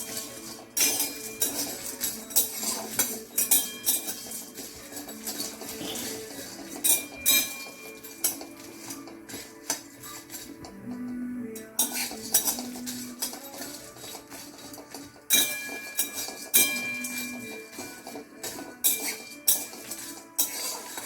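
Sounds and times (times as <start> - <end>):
metal spatula scraping a pan: 0.0 - 10.7, 11.6 - 21.0.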